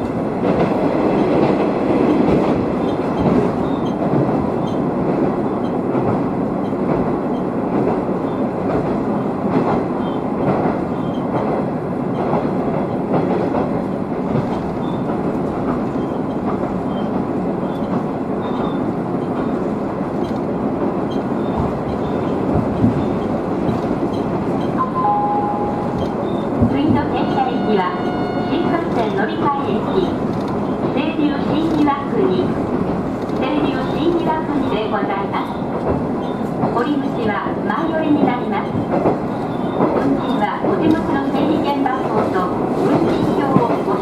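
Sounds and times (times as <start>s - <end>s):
railcar engine and wheels rumbling: 0.0s - 44.0s.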